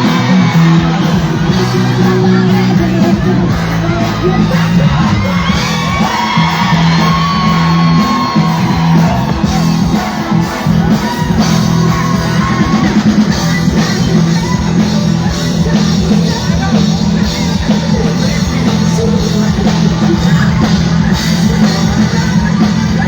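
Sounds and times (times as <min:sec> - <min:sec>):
live band playing: 0:00.0 - 0:23.0
person singing: 0:00.0 - 0:23.0.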